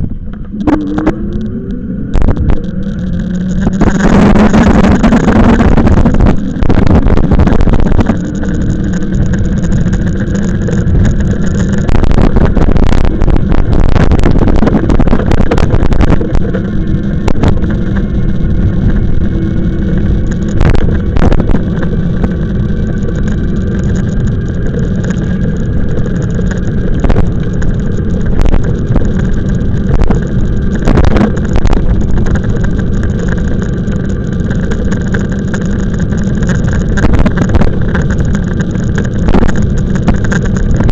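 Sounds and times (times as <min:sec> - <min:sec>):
faint steady whine: 0:00.0 - 0:40.9
road rumble: 0:00.0 - 0:40.9
wind buffeting microphone: 0:00.0 - 0:40.9
clicks and rattles from bumps: 0:02.2 - 0:40.9.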